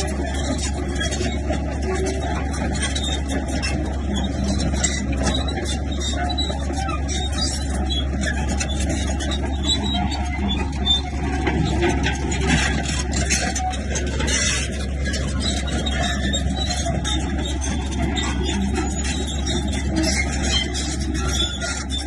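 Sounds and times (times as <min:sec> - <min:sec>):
bulldozer diesel engine: 0:00.0 - 0:22.0
track clanks: 0:00.0 - 0:22.0
track squeaks: 0:00.0 - 0:22.0.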